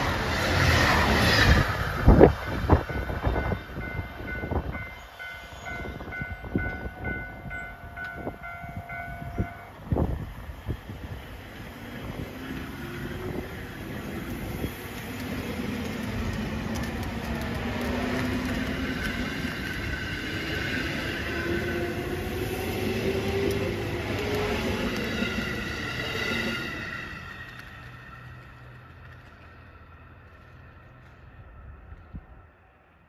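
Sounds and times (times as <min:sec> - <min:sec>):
wheels rumbling on rail: 0:00.0 - 0:33.0.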